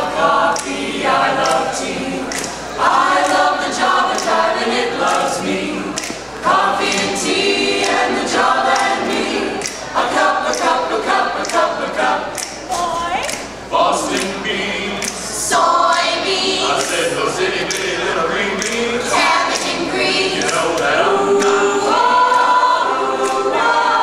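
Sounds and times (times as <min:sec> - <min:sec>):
choir singing a cappella: 0:00.0 - 0:24.0.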